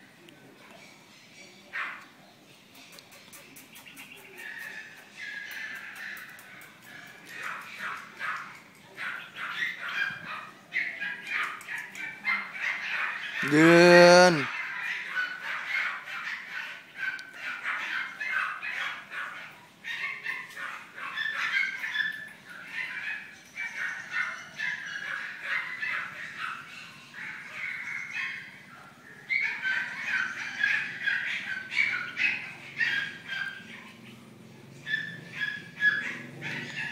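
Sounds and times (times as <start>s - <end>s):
small dog yipping and barking: 4.3s - 36.9s.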